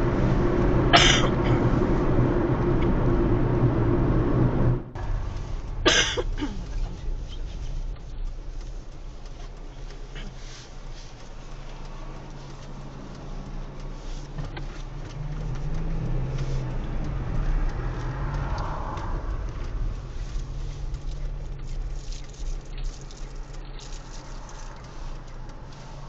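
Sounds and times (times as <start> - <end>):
car engine: 0.0 - 26.0
road noise inside car: 0.0 - 26.0.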